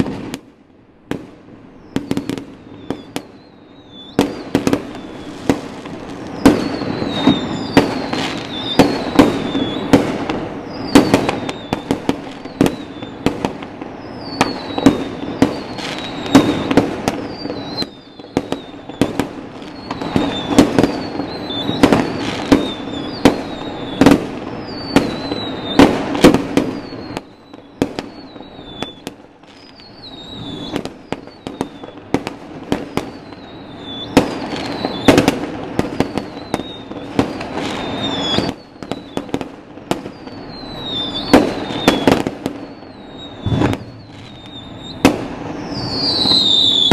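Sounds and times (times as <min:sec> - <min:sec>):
firework bangs: 0:00.0 - 0:46.9
falling firework whistles: 0:01.1 - 0:46.9.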